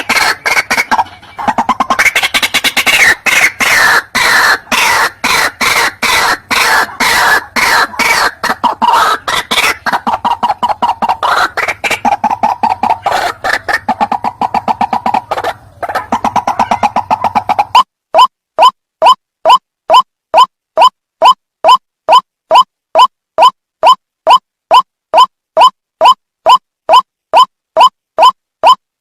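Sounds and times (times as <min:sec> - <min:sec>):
bird call harsh repeated notes: 0:00.0 - 0:28.8.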